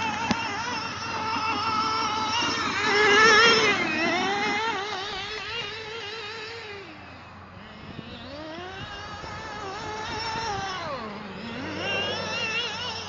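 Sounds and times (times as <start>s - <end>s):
nitro engine revving: 0.0s - 13.0s.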